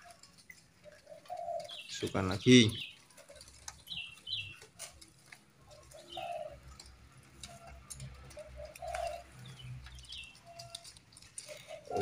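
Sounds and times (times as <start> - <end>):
doves cooing softly: 0.0 - 12.0.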